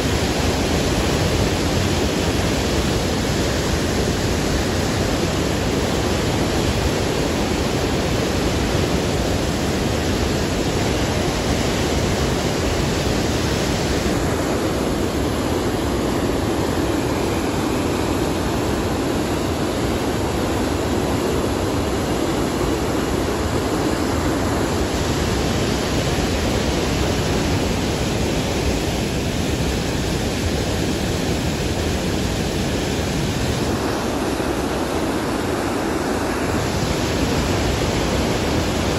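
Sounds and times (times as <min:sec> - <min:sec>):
river rapids and waterfall rushing: 0:00.0 - 0:38.9.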